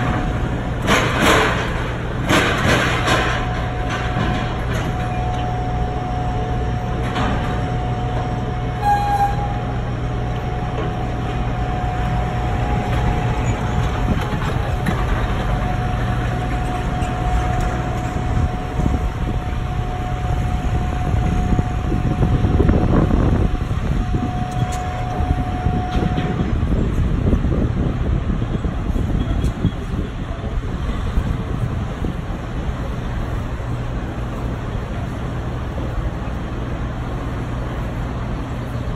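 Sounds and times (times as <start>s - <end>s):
high whine: 0.0s - 37.2s
forklift engine running: 0.0s - 38.9s
low machinery hum: 0.0s - 38.9s.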